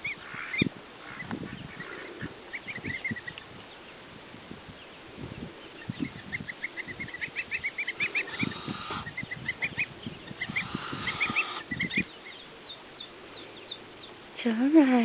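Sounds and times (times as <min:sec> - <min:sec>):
goslings and ducklings peeping: 0:00.0 - 0:03.9, 0:05.3 - 0:15.0
harsh bird calls: 0:00.0 - 0:04.0, 0:05.4 - 0:14.2.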